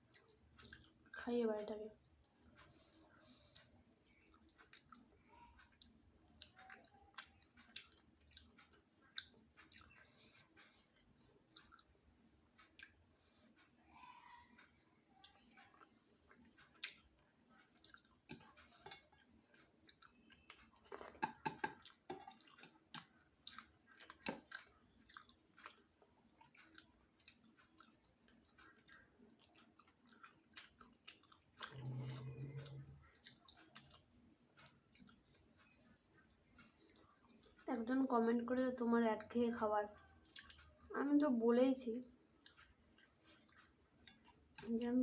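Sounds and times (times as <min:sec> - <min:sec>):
person chewing food: 0:00.0 - 0:01.2, 0:01.9 - 0:13.8, 0:14.6 - 0:37.7, 0:40.0 - 0:40.9, 0:42.1 - 0:44.9
small mouth clicks and smacks: 0:00.0 - 0:13.7, 0:14.6 - 0:37.7, 0:40.0 - 0:40.9, 0:42.1 - 0:44.9.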